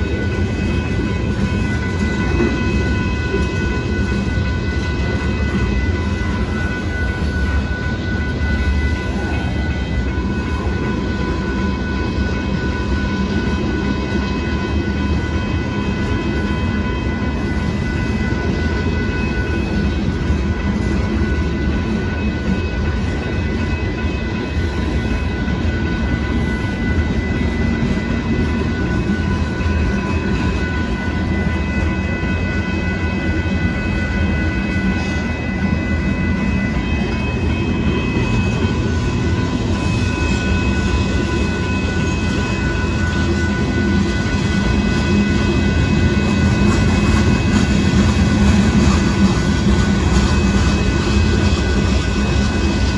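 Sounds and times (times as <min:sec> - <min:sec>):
crossing signal bell ringing: 0:00.0 - 0:52.9
train wheels rumbling on rails: 0:00.0 - 0:52.9.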